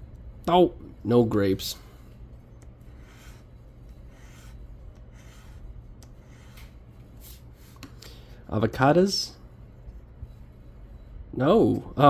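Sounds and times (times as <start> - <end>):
low steady hum: 0.0 - 12.0
lottery ticket being scratched: 0.4 - 12.0.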